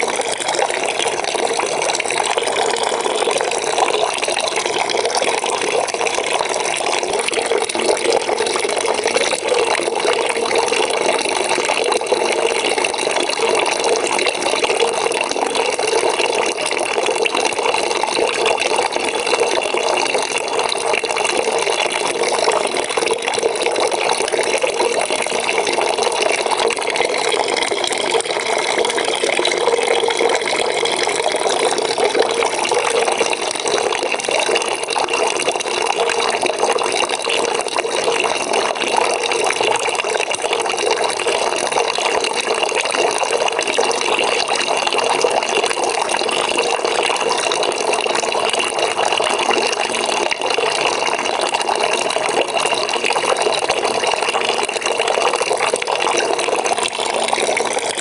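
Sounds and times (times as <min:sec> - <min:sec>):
water pouring into a bucket: 0:00.0 - 0:58.0.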